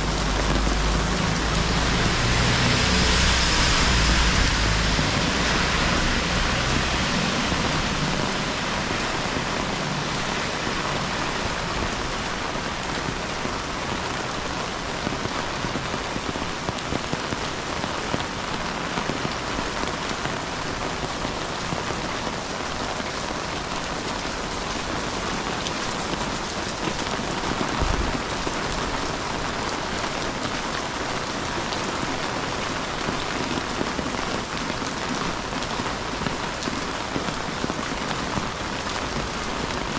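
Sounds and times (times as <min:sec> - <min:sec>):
raindrops ticking on microphone: 0:00.0 - 0:39.9
steady rain hiss: 0:00.0 - 0:39.9.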